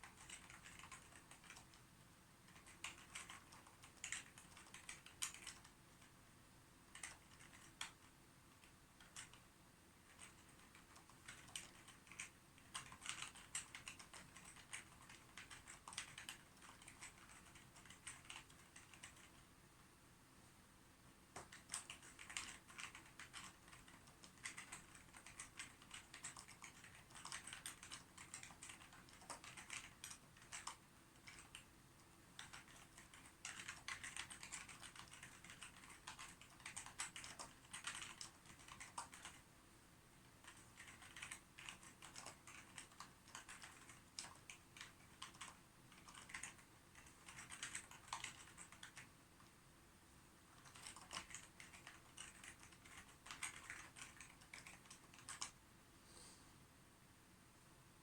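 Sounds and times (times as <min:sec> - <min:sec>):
keyboard typing: 0:00.0 - 0:06.2, 0:06.9 - 0:19.5, 0:21.3 - 0:39.4, 0:40.2 - 0:49.5, 0:50.5 - 0:55.6.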